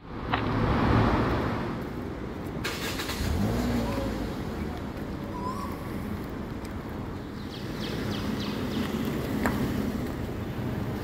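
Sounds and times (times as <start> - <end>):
road noise rumble: 0.0 - 11.0
car passing: 0.1 - 11.0.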